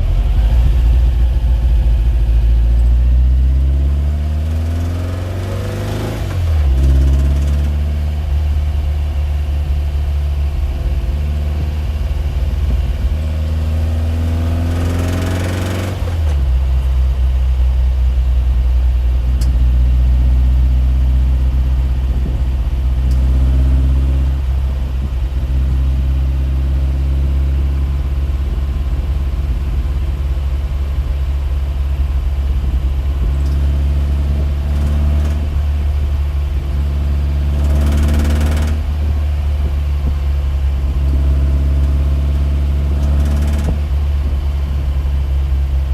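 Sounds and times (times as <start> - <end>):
machine droning: 0.0 - 45.9.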